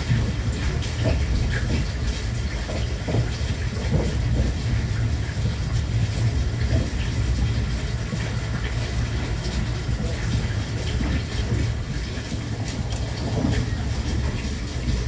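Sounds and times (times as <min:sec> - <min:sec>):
electric train rumbling: 0:00.0 - 0:15.0
rail noise: 0:00.0 - 0:15.0.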